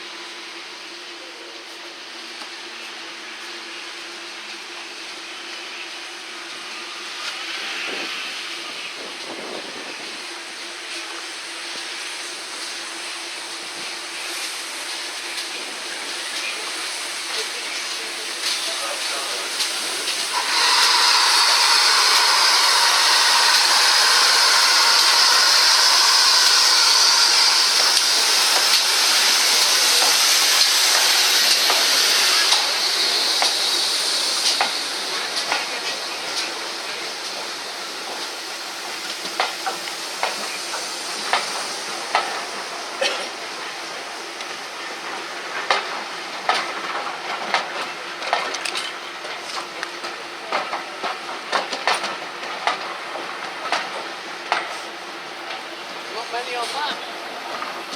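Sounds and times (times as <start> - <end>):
locomotive steam hissing: 0.0 - 57.9.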